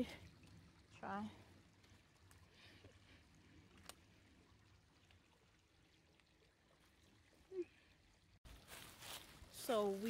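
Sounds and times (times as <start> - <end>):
stream trickling: 0.0 - 10.0.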